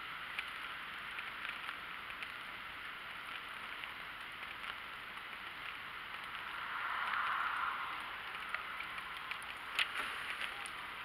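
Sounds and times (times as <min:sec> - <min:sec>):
steady hiss: 0:00.0 - 0:11.0
water drops pattering: 0:00.3 - 0:11.0.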